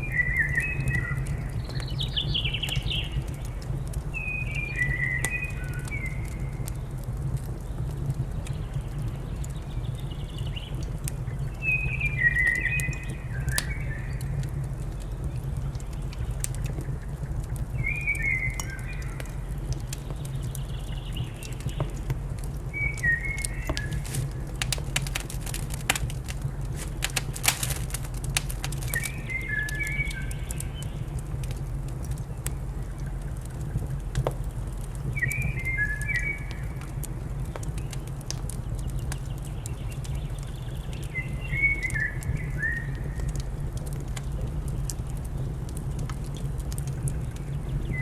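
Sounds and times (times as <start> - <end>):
fire crackling in fireplace: 0.0 - 48.0.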